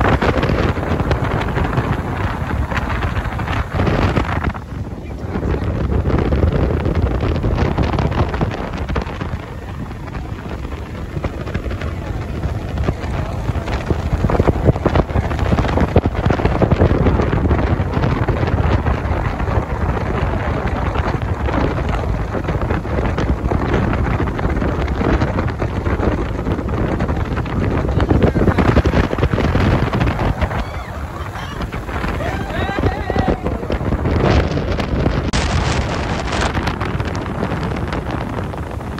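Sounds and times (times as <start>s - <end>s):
motorboat engine: 0.0s - 38.9s
rushing water: 0.0s - 38.9s
wind buffeting microphone: 0.0s - 38.9s.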